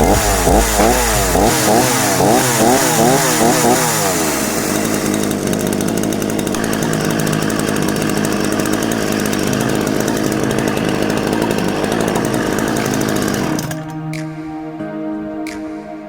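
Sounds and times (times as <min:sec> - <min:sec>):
chainsaw engine running: 0:00.0 - 0:14.2.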